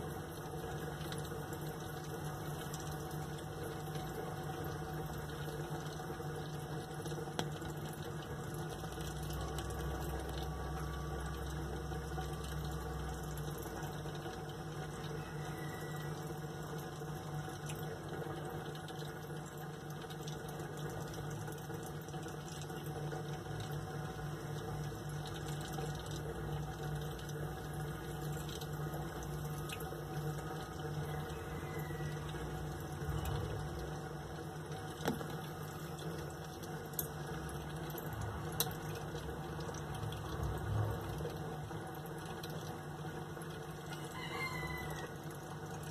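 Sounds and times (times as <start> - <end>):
flowing water: 0.0 - 45.9
pump humming: 0.0 - 45.9.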